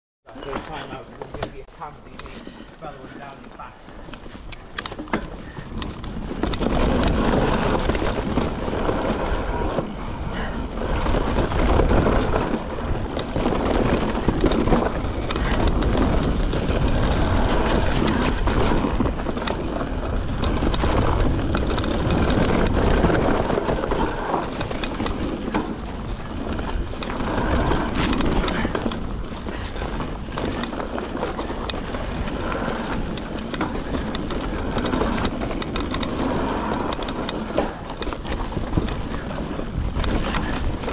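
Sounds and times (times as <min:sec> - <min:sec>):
bike rattles and clicks: 0:00.3 - 0:40.9
bike tyres rolling over dirt: 0:00.3 - 0:40.9
wind buffeting microphone: 0:04.2 - 0:40.9.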